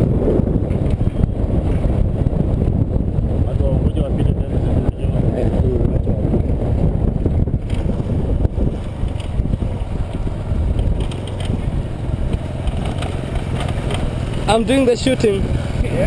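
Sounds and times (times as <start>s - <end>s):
motorcycle engine rumble: 0.0s - 16.0s
wind on microphone: 0.0s - 16.0s.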